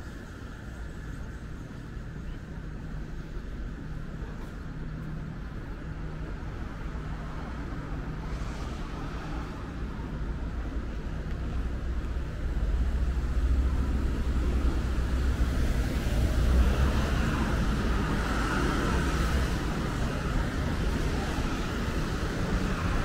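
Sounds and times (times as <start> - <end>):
passing vehicles rumbling: 0.0 - 23.0.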